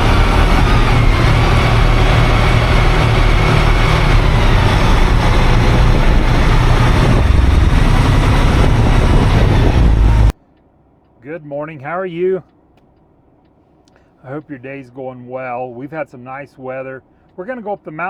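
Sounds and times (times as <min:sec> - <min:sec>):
diesel truck engine drone: 0:00.0 - 0:18.0
road noise: 0:00.0 - 0:18.0.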